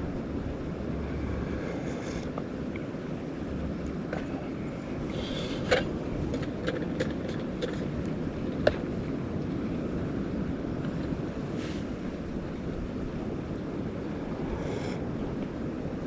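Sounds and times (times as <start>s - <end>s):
strong wind on microphone: 0.0s - 16.0s.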